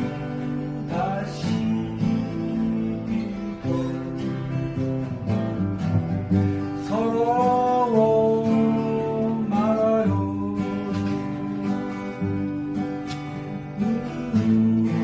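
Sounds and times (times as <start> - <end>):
man singing: 0.0 - 5.0, 6.6 - 12.6, 13.8 - 15.0
acoustic guitar strumming: 0.0 - 15.0.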